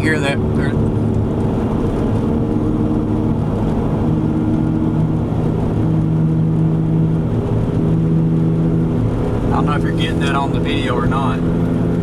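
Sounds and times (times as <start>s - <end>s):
road and drivetrain drone: 0.0s - 12.0s.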